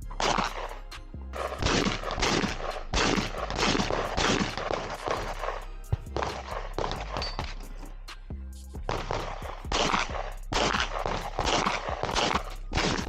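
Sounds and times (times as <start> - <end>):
music with beat and deep bass: 0.0 - 13.0
gunshots: 0.2 - 0.7, 1.4 - 7.6, 8.9 - 13.0.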